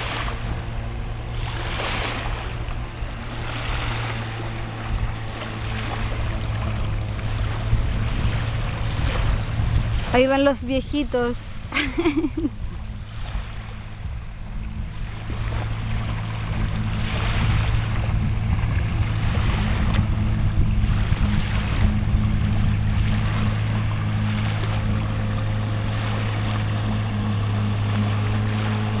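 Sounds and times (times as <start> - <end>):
outboard motor drone: 0.0 - 29.0
water rushing: 0.0 - 29.0.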